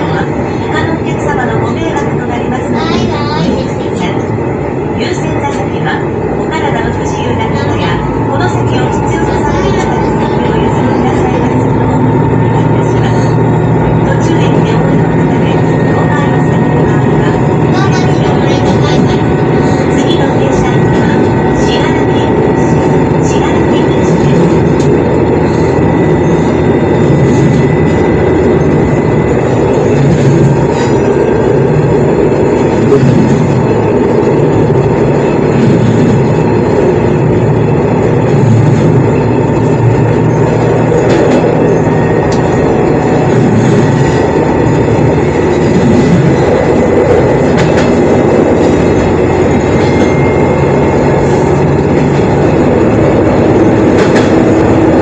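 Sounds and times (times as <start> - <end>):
railcar engine and wheels running: 0.0 - 55.0.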